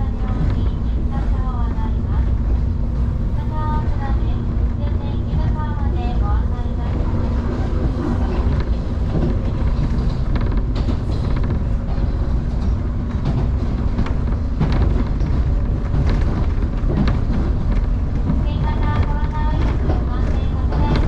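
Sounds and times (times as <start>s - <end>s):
clacks over rail joints: 0.0s - 21.0s
train wheels rumbling on rail: 0.0s - 21.0s.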